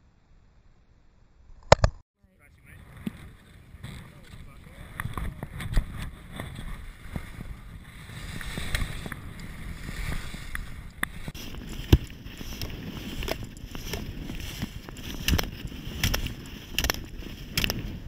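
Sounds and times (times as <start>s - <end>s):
skis scraping over snow: 2.6s - 18.0s
wind buffeting microphone: 2.6s - 18.0s.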